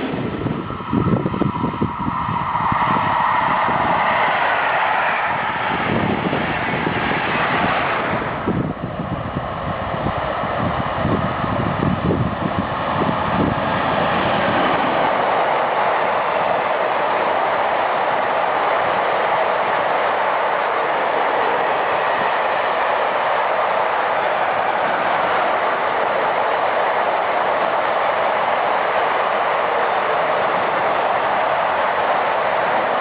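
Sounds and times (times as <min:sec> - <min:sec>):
steady rushing noise: 0:00.0 - 0:33.0
train wheels rumbling and knocking: 0:00.0 - 0:33.0.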